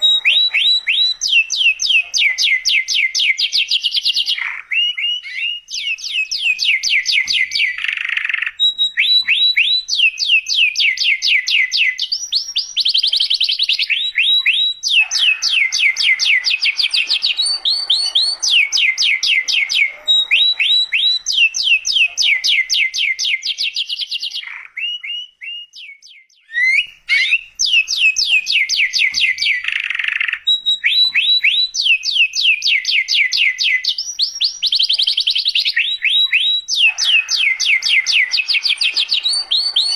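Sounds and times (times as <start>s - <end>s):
canary singing in rapid trills: 0.0s - 39.9s.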